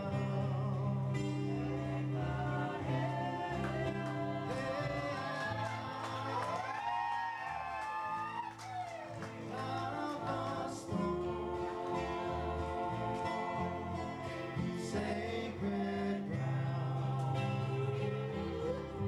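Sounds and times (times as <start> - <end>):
acoustic guitar playing: 0.0 - 7.0, 9.1 - 19.0
people singing: 0.0 - 7.0, 9.2 - 19.0.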